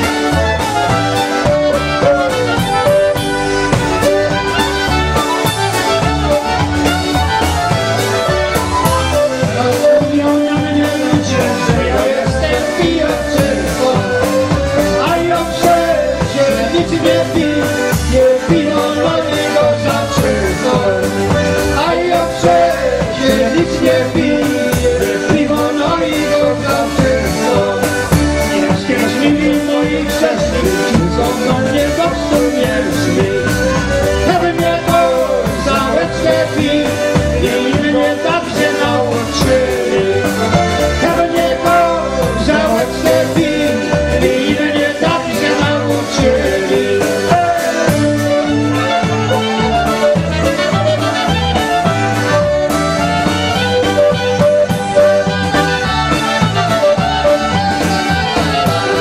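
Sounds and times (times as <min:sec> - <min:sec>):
men singing: 0:00.0 - 0:03.3, 0:09.0 - 0:59.0
polka band playing: 0:00.0 - 0:59.0.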